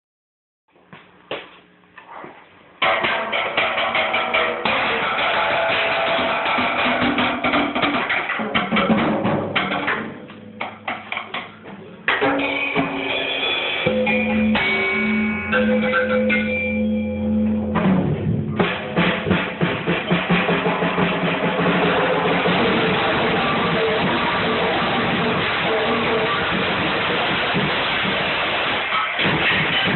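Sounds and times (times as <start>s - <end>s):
rock music with drums: 2.8s - 11.4s, 12.1s - 29.9s.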